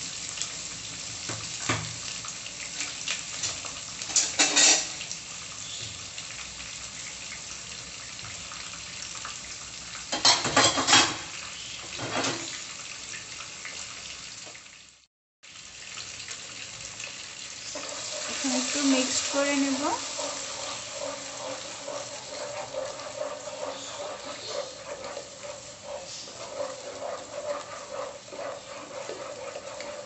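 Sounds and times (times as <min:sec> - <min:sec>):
pastes sizzling in hot oil: 0:00.0 - 0:30.0.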